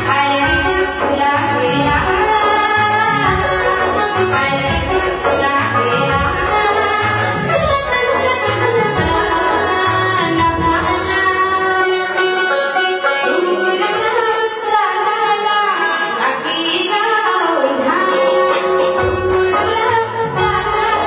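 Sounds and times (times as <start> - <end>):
girl singing: 0.0 - 12.4, 13.3 - 21.0
instrumental accompaniment: 0.0 - 21.0.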